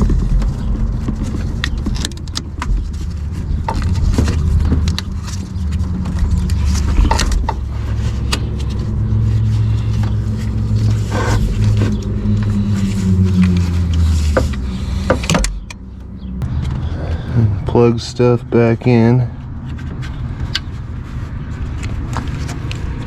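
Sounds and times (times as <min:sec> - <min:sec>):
steady low hum: 0:00.0 - 0:21.8.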